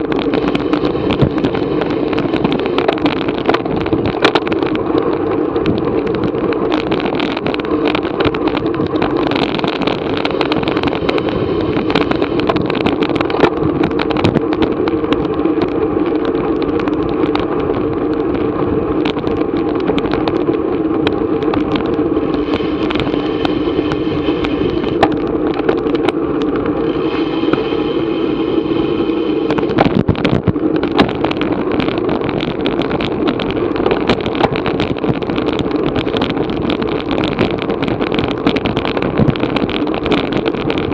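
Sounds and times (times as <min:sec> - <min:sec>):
bicycle knocks and rattles: 0:00.0 - 0:40.9
wind and road noise: 0:00.0 - 0:40.9.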